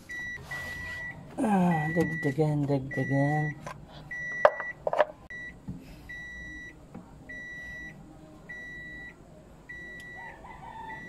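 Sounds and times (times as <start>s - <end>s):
electronic warning beeps: 0.0s - 10.3s.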